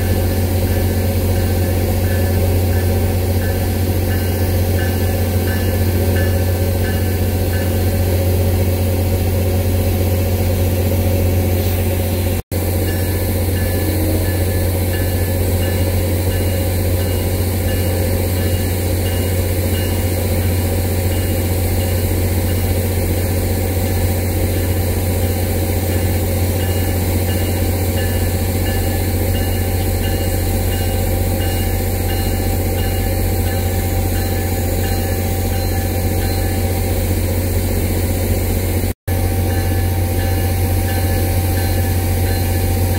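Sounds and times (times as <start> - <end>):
locomotive diesel engine droning: 0.0 - 42.9.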